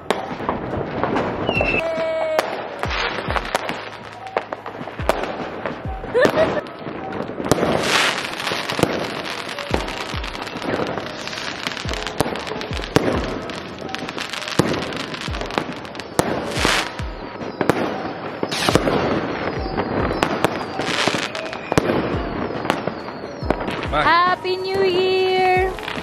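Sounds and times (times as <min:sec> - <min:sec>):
firecrackers crackling: 0:00.0 - 0:26.0
firework bangs and booms: 0:00.0 - 0:26.0
fireworks hissing: 0:00.0 - 0:26.0.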